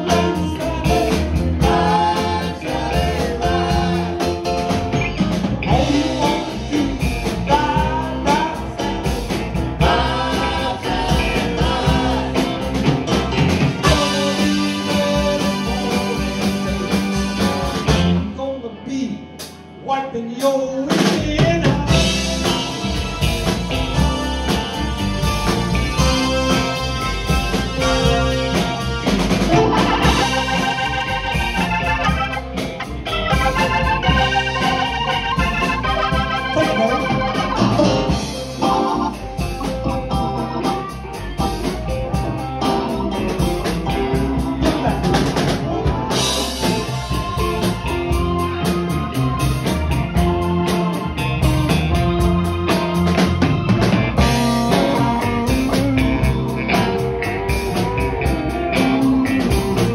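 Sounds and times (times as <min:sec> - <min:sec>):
drum kit: 0:00.0 - 0:18.5, 0:19.3 - 0:19.7, 0:20.4 - 0:59.9
organ keyboard solo: 0:00.0 - 0:19.8, 0:21.9 - 0:59.9
live band playing: 0:00.0 - 0:59.9.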